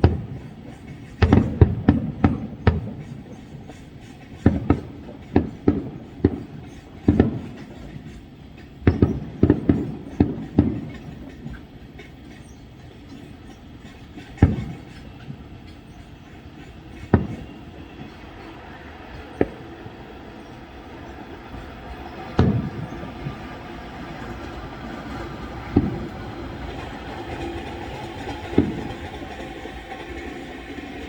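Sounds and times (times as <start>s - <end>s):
fireworks booming: 0.0s - 30.3s.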